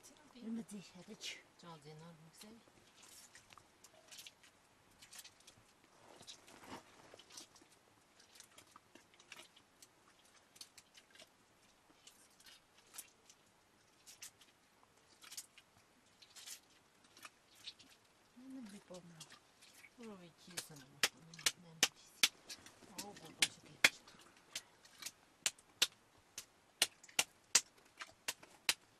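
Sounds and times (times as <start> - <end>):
hands crackling food over pot: 2.4 - 28.9.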